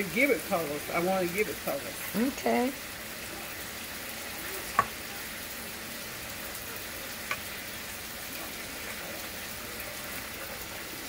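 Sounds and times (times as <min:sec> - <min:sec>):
chicken wings frying in oil: 0:00.0 - 0:11.0.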